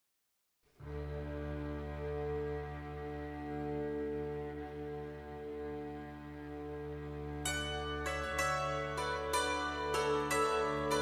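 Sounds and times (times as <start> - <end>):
bowed strings holding a chord: 0.8 - 11.0.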